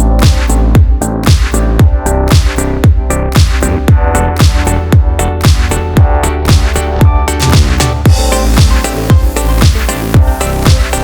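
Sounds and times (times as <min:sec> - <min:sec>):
electronic dance music: 0:00.0 - 0:11.0
kick drum beats: 0:00.0 - 0:11.0.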